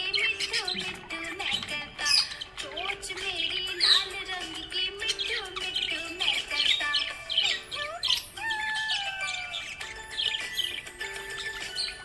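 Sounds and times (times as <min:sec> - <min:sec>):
budgerigars chattering: 0:00.0 - 0:12.0.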